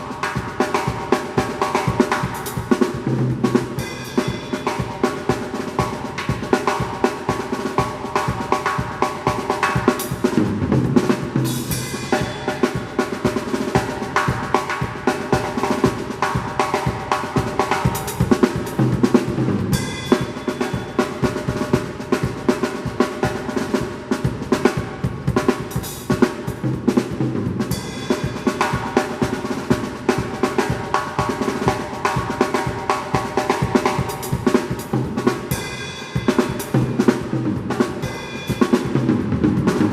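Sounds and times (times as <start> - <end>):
fast drum kit groove: 0.0 - 39.9.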